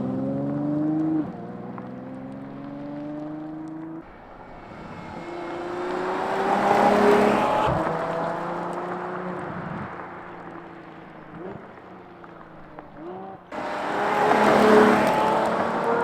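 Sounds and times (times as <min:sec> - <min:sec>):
sports car engine driving past: 0:00.0 - 0:16.0.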